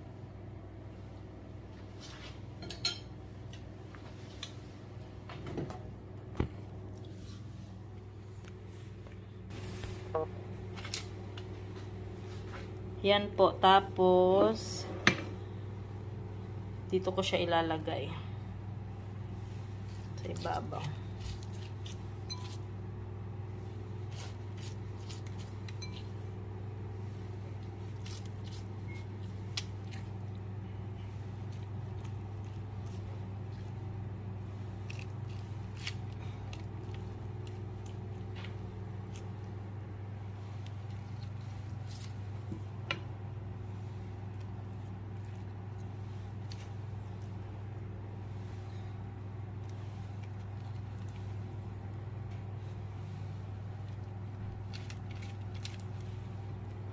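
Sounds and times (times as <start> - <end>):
kitchen appliance hum: 0.0 - 56.9.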